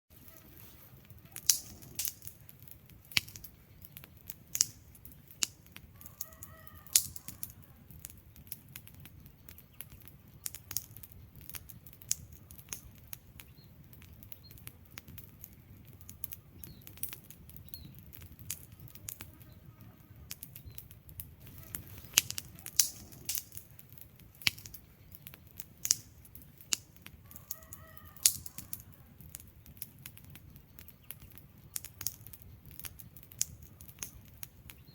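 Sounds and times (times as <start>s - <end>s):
low rumble of flames: 0.1s - 34.9s
logs snapping and popping: 0.2s - 19.6s, 20.3s - 34.9s.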